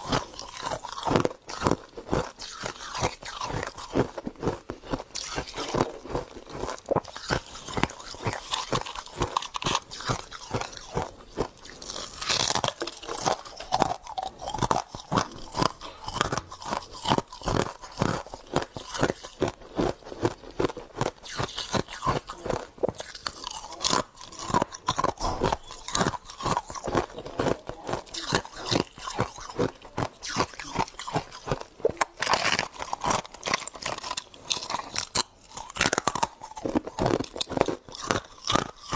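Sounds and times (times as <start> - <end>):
crunching and chewing frost: 0.0 - 38.9.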